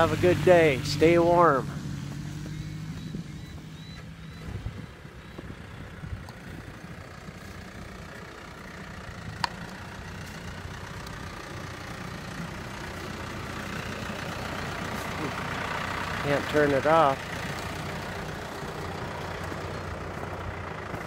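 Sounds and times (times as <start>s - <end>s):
approaching tractor engine: 0.0s - 21.0s
low engine idling: 0.0s - 21.0s.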